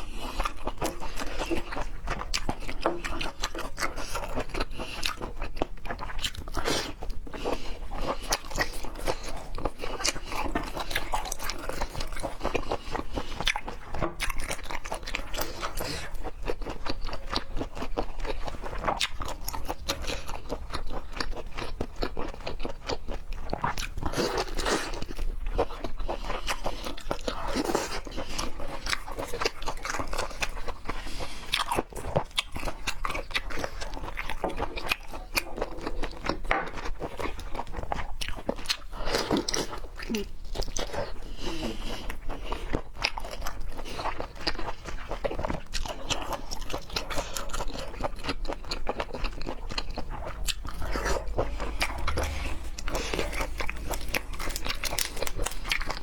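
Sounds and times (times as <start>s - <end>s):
person chewing and biting: 0.0s - 56.0s.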